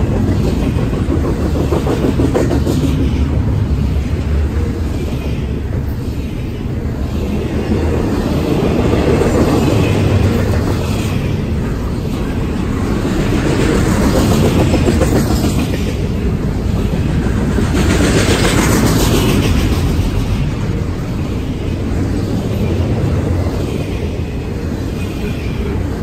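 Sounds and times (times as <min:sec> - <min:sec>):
clickety-clack of train wheels: 0:00.0 - 0:26.0
train wheels rumbling on rail: 0:00.0 - 0:26.0.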